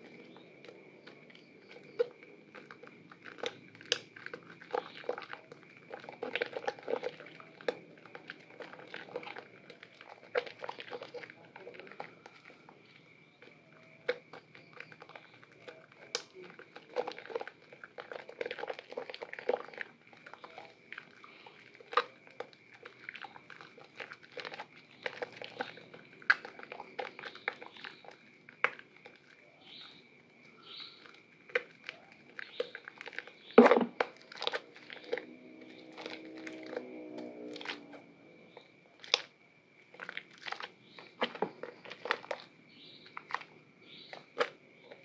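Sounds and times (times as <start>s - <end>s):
wet soap squelching: 0.0s - 45.0s.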